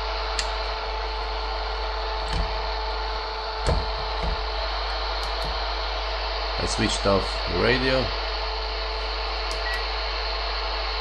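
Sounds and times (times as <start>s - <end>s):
low hum: 0.0s - 11.0s
radio static hiss: 0.0s - 11.0s.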